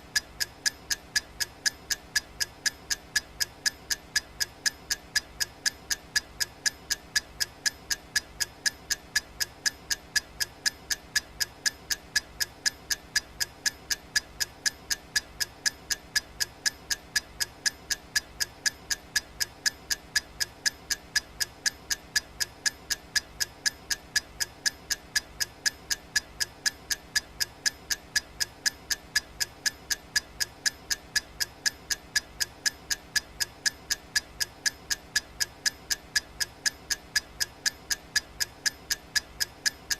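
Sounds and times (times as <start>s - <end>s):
clock ticking: 0.1s - 39.9s.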